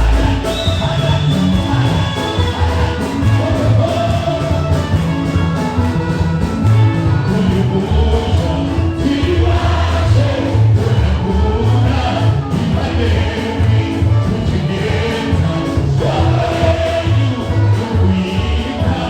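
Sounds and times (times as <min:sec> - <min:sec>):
live gospel band: 0:00.0 - 0:19.0
people singing: 0:00.0 - 0:19.0
steady bass line: 0:00.0 - 0:19.0.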